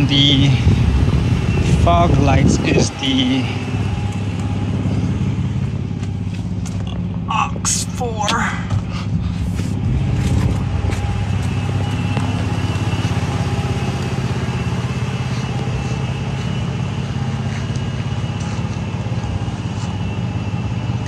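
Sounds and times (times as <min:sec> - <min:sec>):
pickup engine idling: 0:00.0 - 0:21.0.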